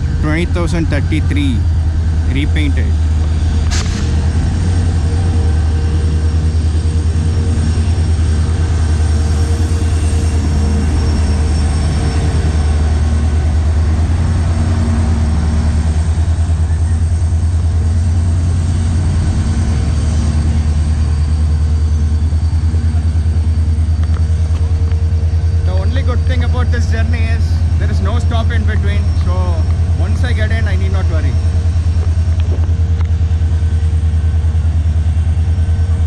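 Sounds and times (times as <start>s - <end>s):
diesel locomotive engine droning: 0.0s - 36.0s.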